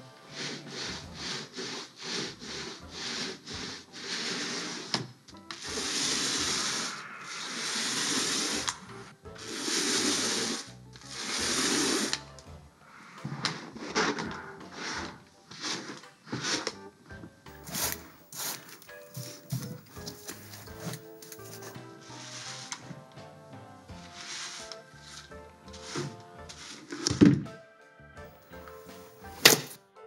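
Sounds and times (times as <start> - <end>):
paint roller rubbing on canvas: 0.3 - 12.2, 13.2 - 16.8, 17.5 - 22.8, 24.0 - 27.1, 28.4 - 29.8.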